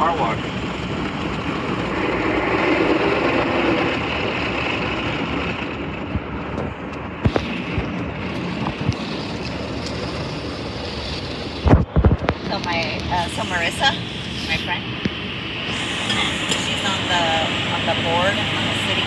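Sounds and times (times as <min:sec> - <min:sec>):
car wash rushing roar: 0:00.0 - 0:19.0.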